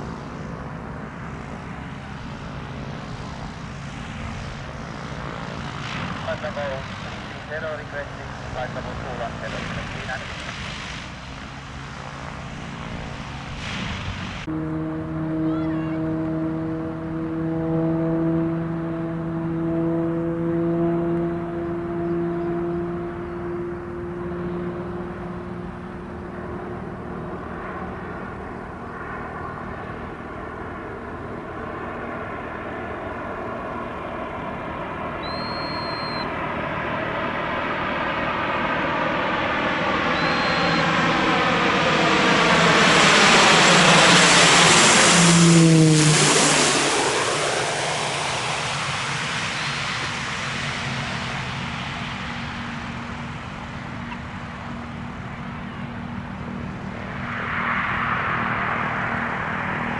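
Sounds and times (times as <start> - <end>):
propeller aircraft flying past: 0.0 - 59.9.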